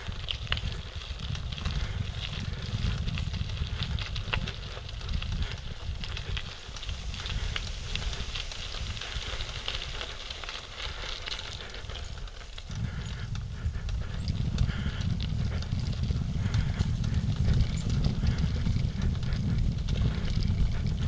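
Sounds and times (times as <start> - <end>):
bicycle tyres clicking and rattling: 0.0 - 21.0
wind rumble on microphone: 0.0 - 21.0.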